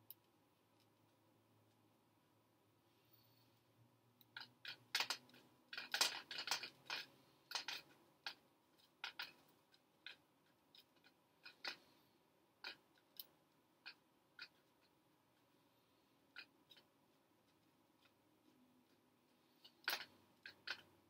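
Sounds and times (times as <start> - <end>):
clicks and snips of small objects: 0.0 - 1.9, 4.1 - 15.5, 16.2 - 21.0.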